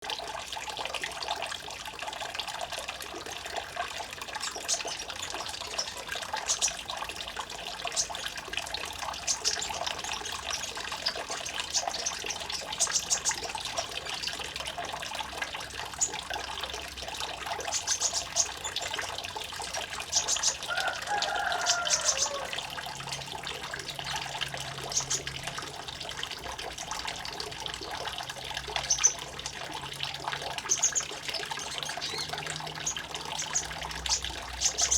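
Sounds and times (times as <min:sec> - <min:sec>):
water trickling and splashing: 0:00.0 - 0:34.9.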